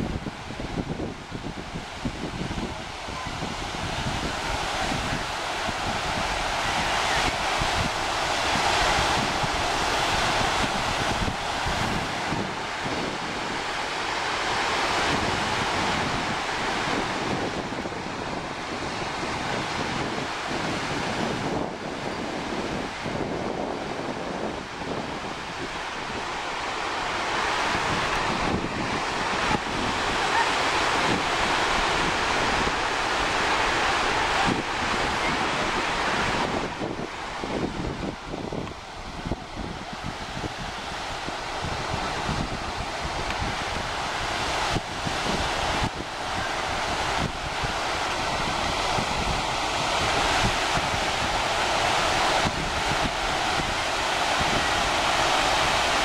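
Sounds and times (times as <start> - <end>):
surf breaking on beach: 0.0 - 56.0
wind buffeting microphone: 0.0 - 56.0.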